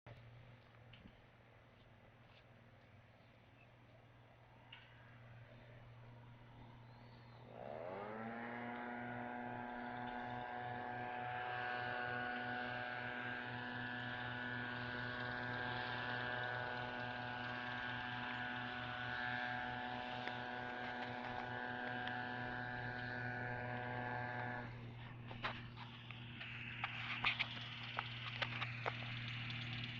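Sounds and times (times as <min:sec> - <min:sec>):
low hum: 0:00.1 - 0:29.9
motor spinning: 0:05.1 - 0:29.9.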